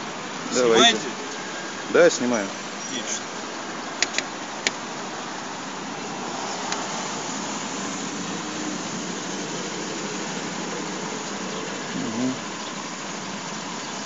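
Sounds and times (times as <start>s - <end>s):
street noise hiss: 0.0s - 14.0s.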